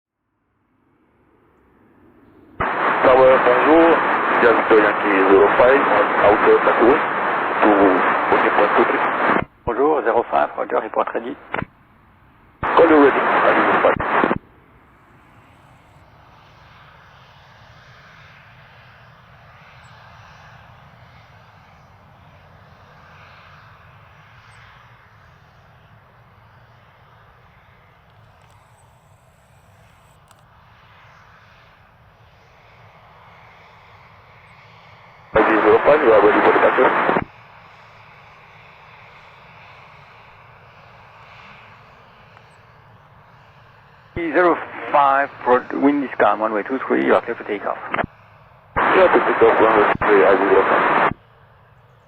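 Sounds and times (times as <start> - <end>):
jet engines running: 0.7 - 52.0.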